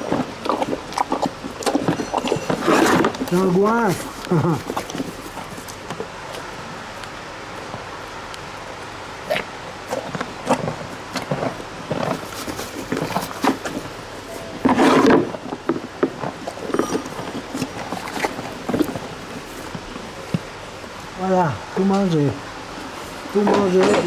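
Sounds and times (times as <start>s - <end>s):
animal eating: 0.0s - 21.2s.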